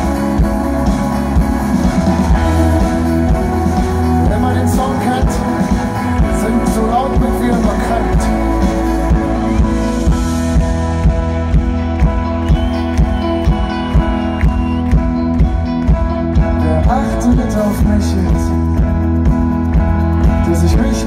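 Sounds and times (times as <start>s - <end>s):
live pop-rock band playing: 0.0s - 21.0s
steady drum beat: 0.0s - 21.0s.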